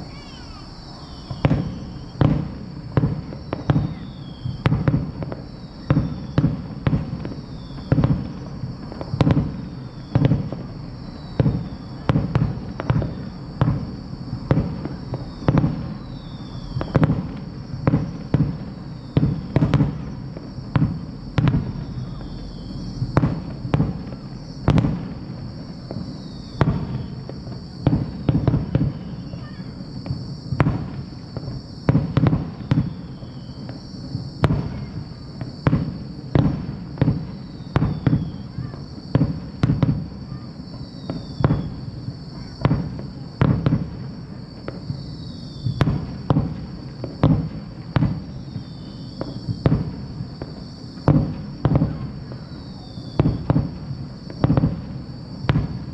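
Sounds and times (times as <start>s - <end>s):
falling whistles: 0.0s - 13.8s, 14.4s - 24.9s, 25.5s - 30.6s, 31.4s - 36.1s, 37.0s - 42.7s, 44.7s - 46.0s, 48.0s - 49.8s, 51.7s - 53.7s
fireworks bursting: 0.0s - 55.9s.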